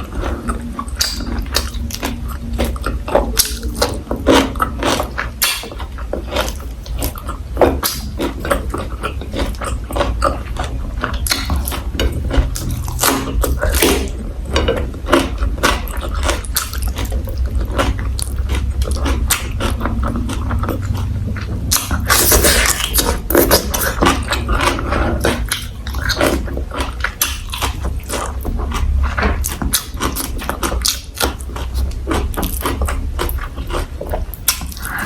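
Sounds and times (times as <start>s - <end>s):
chewing and crunching food: 0.0s - 35.0s
steady low hum: 0.0s - 35.0s.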